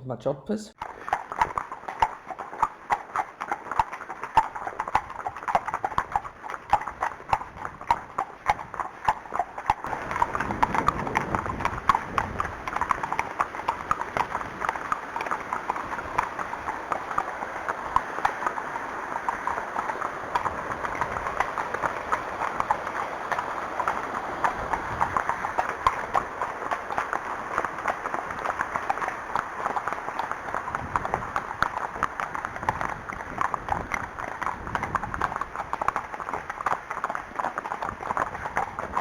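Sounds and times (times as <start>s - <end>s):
horse hooves clip-clopping: 0.8s - 39.0s
wind noise: 0.8s - 39.0s.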